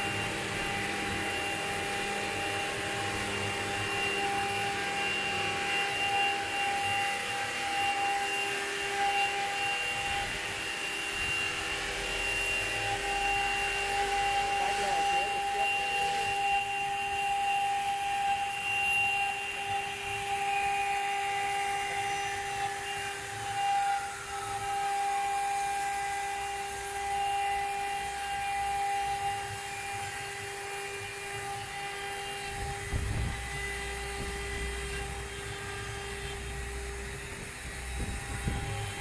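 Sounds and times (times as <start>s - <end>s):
engraving machine spindle whine: 0.0s - 39.0s.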